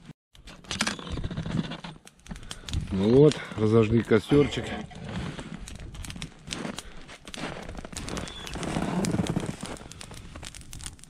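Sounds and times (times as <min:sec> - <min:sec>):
campfire crackling: 0:01.8 - 0:11.0.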